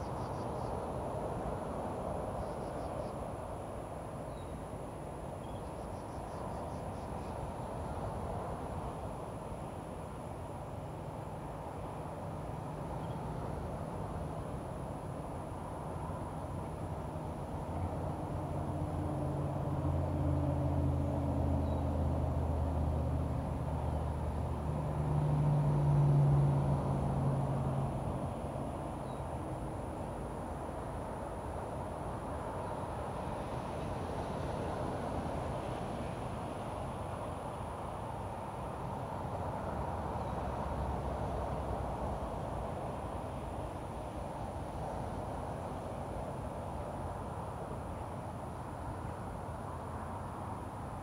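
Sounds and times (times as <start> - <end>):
steady noisy hiss: 0.0 - 51.0.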